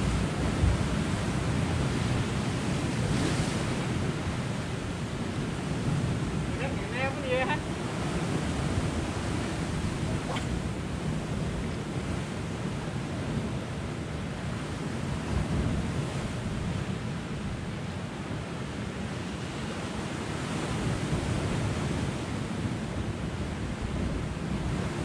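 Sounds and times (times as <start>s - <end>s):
sea surf on rocky shore: 0.0s - 25.0s
wind rumbling on microphone: 0.0s - 25.0s.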